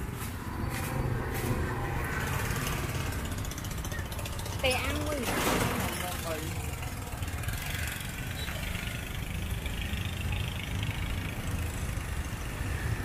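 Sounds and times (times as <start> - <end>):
motor vehicle engines rumbling: 0.0 - 13.0.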